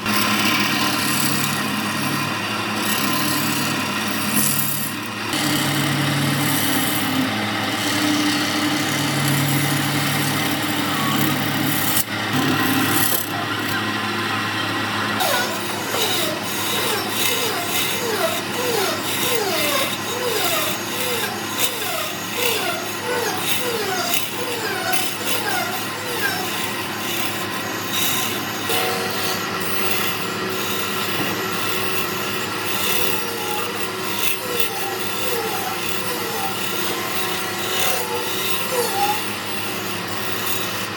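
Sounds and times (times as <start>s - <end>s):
tool scraping spinning wood: 0.0s - 40.9s.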